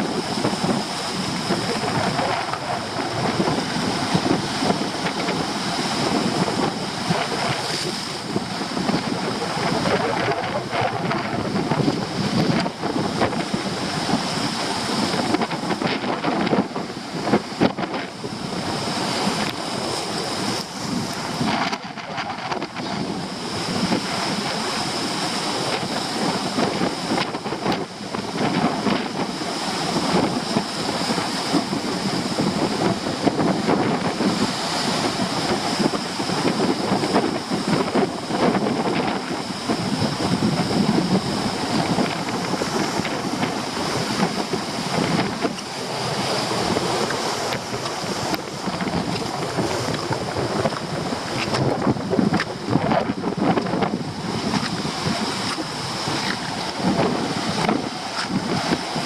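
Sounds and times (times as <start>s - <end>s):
surf breaking on rocks: 0.0s - 59.0s
wind buffeting microphone: 0.0s - 59.0s.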